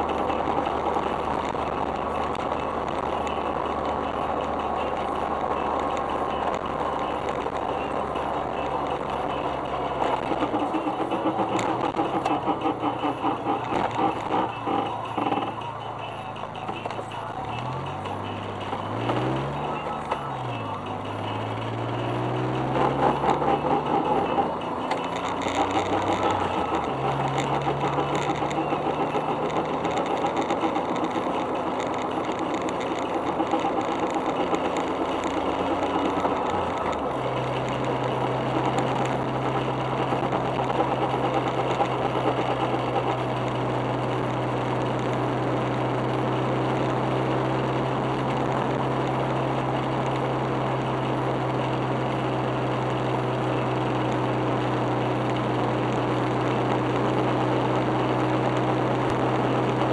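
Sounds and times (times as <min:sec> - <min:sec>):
car engine humming: 0:00.0 - 0:59.9
wheel hub grinding: 0:00.0 - 0:59.9.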